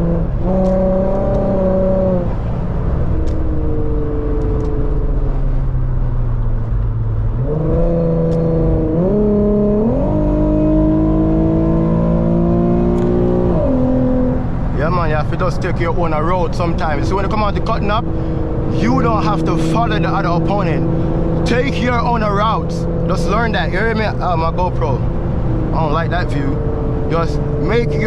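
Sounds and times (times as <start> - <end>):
car engine pulling hard: 0.0 - 28.0.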